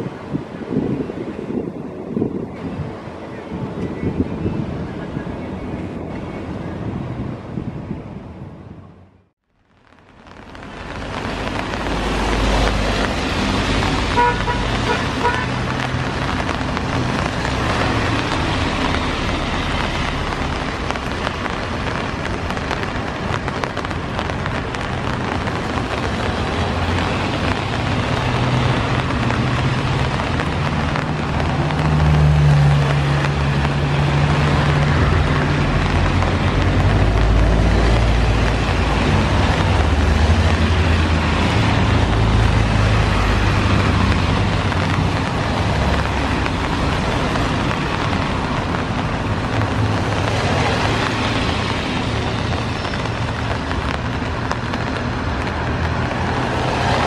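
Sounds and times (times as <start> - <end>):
steady rain hiss: 9.5 - 57.0.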